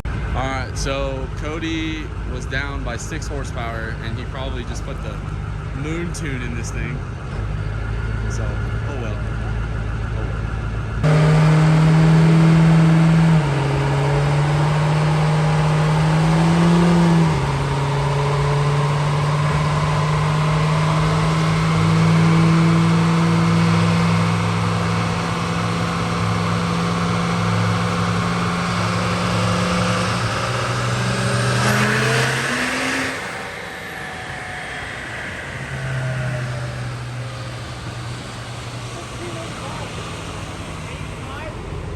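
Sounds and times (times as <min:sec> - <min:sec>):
diesel pickup engine revving: 0:00.0 - 0:41.9.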